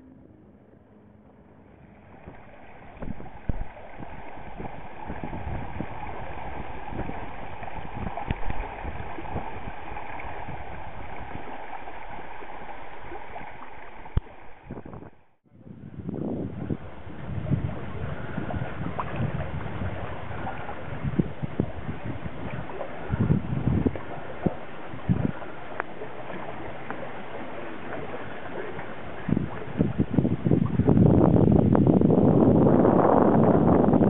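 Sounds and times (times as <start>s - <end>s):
water splashing along boat hull: 0.0s - 34.0s
wind buffeting microphone: 1.3s - 34.0s.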